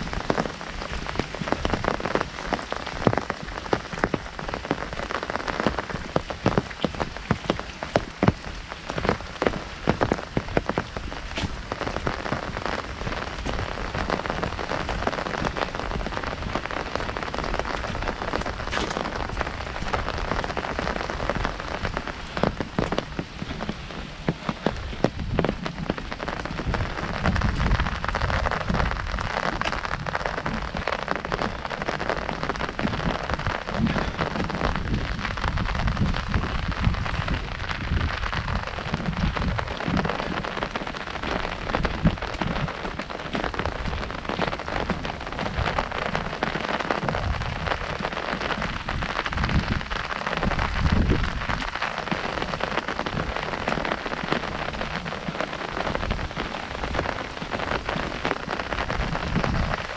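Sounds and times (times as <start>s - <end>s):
heavy rain on an umbrella: 0.0s - 59.9s.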